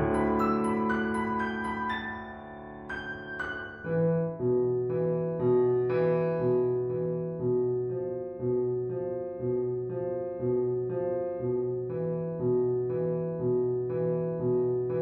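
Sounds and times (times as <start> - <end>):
piano-like keyboard notes ringing: 0.0 - 15.0.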